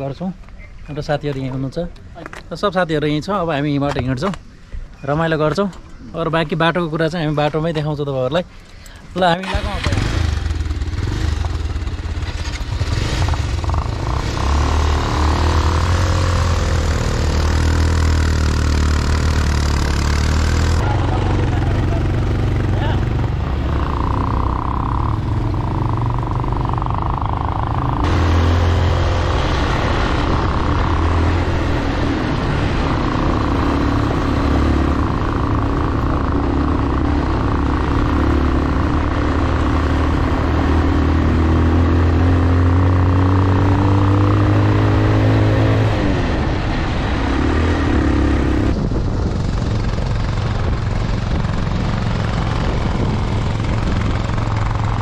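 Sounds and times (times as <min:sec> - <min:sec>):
motorcycle engine running: 0:09.5 - 0:46.2, 0:47.5 - 0:55.0.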